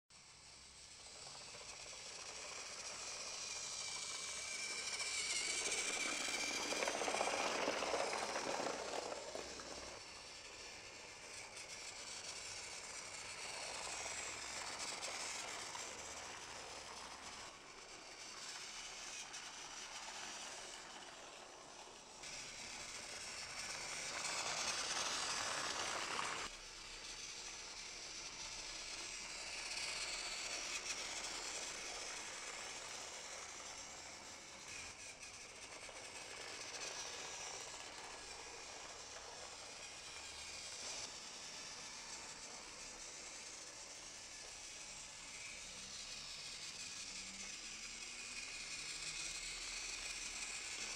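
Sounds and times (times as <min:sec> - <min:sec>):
toy train motors whirring: 0:00.1 - 0:50.9.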